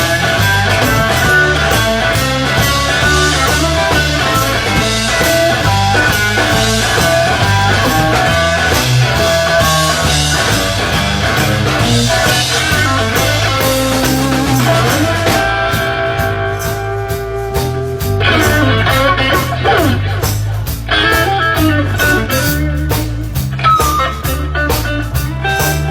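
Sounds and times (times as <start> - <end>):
electric guitar: 0.0 - 25.9
rock band playing: 0.0 - 25.9.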